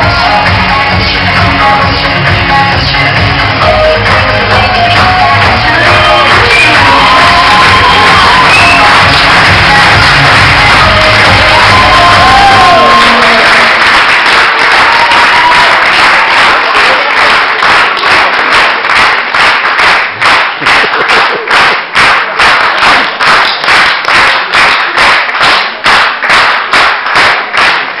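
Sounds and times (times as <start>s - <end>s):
audience applauding: 0.0s - 28.0s
rhythmic clapping in unison: 0.0s - 28.0s.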